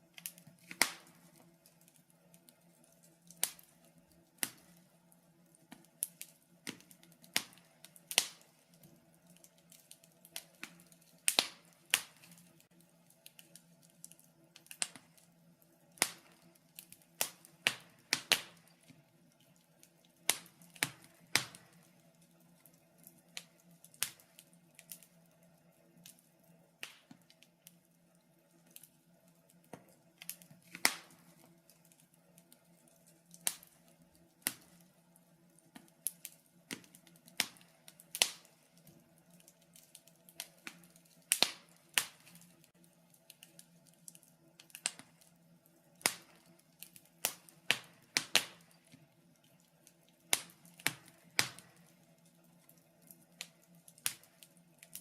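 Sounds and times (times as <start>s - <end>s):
faint steady hum: 0.0s - 55.0s
wood fire crackling and popping: 0.0s - 55.0s.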